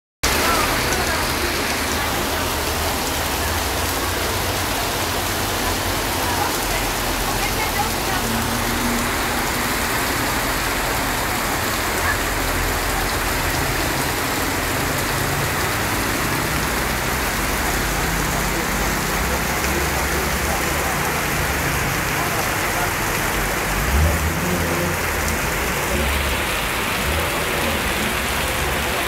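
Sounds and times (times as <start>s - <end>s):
heavy rain on a flooded street: 0.2s - 29.0s.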